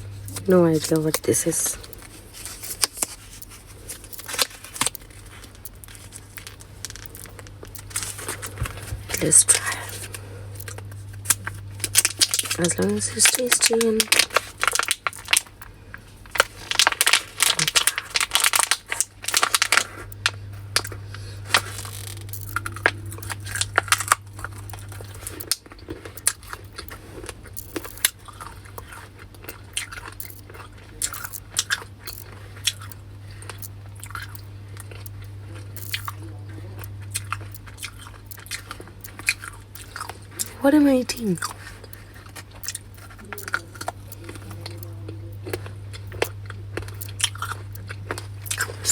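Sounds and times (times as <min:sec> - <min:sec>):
low steady hum: 0:00.0 - 0:48.9
person chewing crunchy snack: 0:00.0 - 0:48.9.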